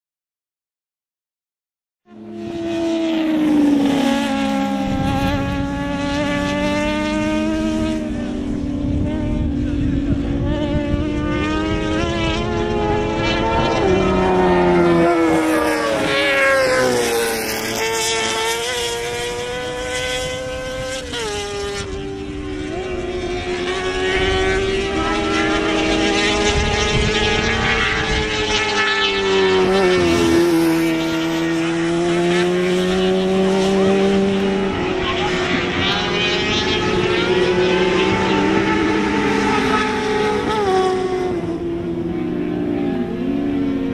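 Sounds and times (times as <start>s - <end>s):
racing engines revving: 2.1s - 43.9s.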